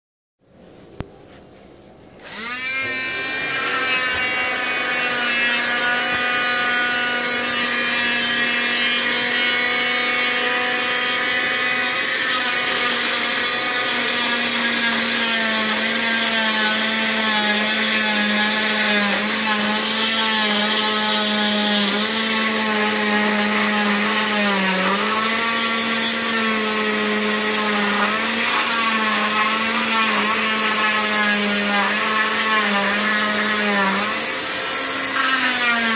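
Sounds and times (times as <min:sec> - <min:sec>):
cast saw whine: 0:02.2 - 0:35.9
dust extraction vacuum: 0:02.2 - 0:35.9.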